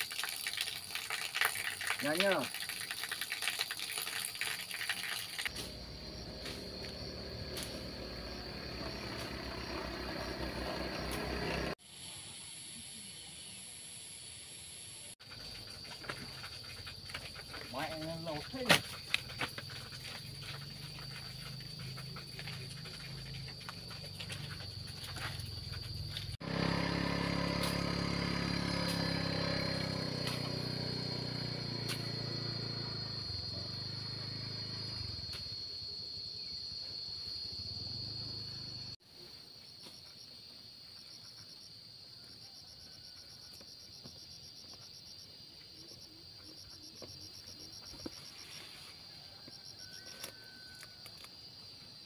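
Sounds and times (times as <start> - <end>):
insects droning: 0.0 - 52.0
rapid pulsing insect chirps: 0.0 - 52.0.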